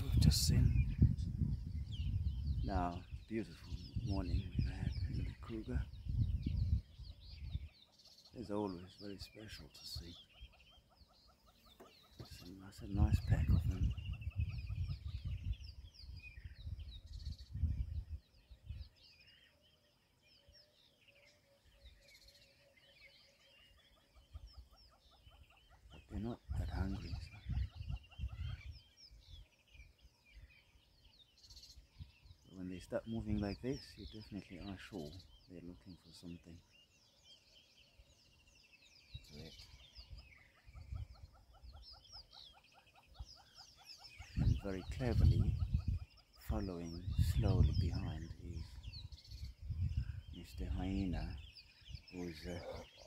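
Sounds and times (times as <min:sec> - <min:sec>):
birds chirping: 0:00.0 - 0:53.0
bird repeated call notes: 0:01.9 - 0:18.2, 0:20.4 - 0:53.0.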